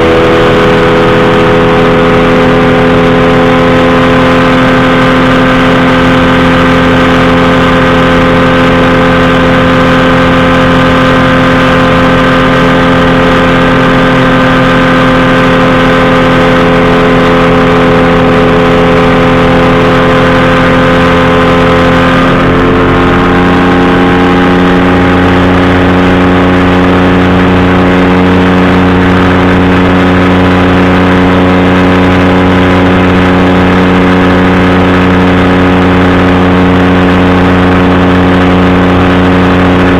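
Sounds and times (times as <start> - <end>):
engine and propeller running: 0.0 - 39.9.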